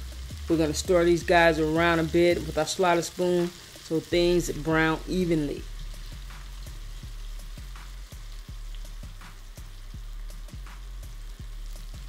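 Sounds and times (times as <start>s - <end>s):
background music with steady beat: 0.0s - 12.0s
onions deep-frying in oil: 0.0s - 12.0s.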